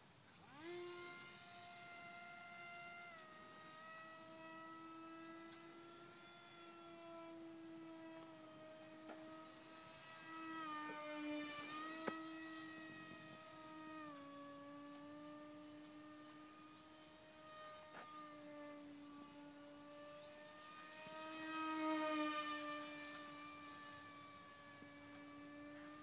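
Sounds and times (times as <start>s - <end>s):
model plane motor whining: 0.0s - 26.0s.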